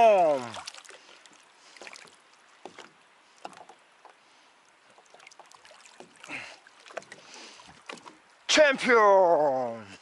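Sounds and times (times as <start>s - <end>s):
small water splashes: 0.0s - 8.5s
water sloshing: 0.0s - 8.5s.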